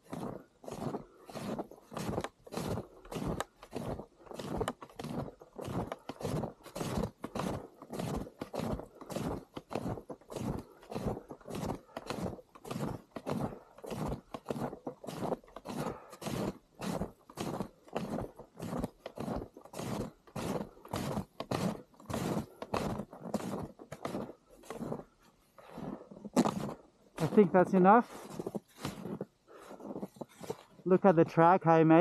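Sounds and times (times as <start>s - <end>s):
footsteps crunching in snow: 0.0s - 32.0s.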